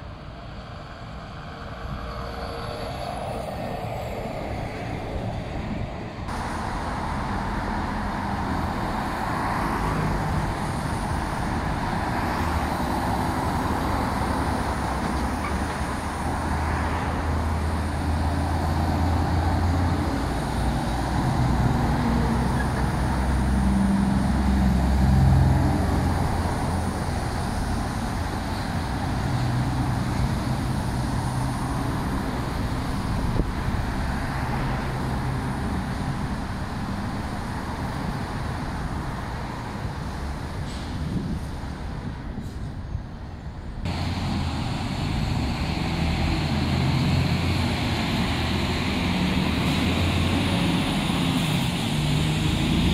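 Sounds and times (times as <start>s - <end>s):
diesel trucks driving past: 0.0s - 52.9s
road traffic: 0.0s - 52.9s.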